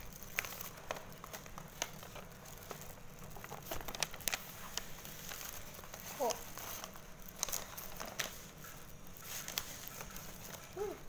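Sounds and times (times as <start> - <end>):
paper wrapping rustling: 0.0 - 11.0.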